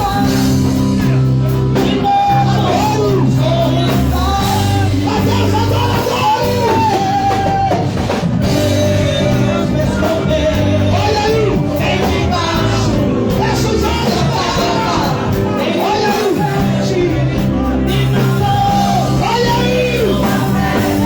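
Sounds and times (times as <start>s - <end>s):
band music: 0.0s - 21.0s
person singing: 0.0s - 21.0s.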